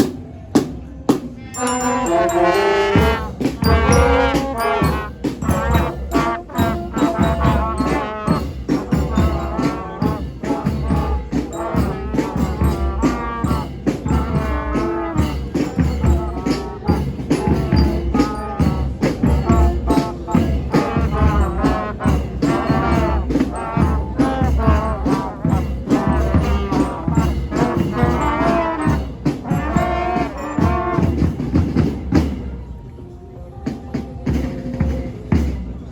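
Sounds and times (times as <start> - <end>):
music with steady beat: 0.0 - 32.6.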